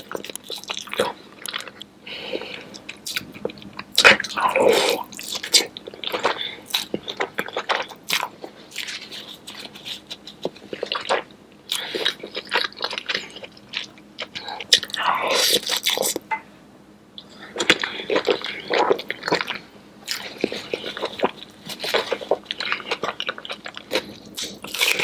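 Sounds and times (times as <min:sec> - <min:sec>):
wet chewing and smacking: 0:00.0 - 0:16.3, 0:17.2 - 0:25.0.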